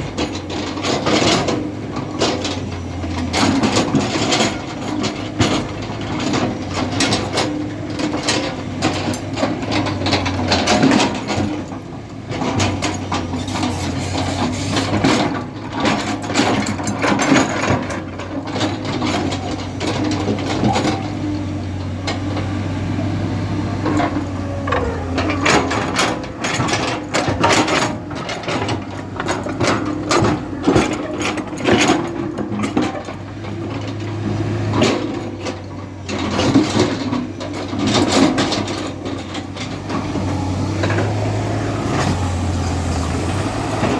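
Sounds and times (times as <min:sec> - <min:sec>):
metal clanks and rattles: 0:00.0 - 0:22.7, 0:23.6 - 0:40.2
diesel machinery engine drone: 0:00.0 - 0:43.9.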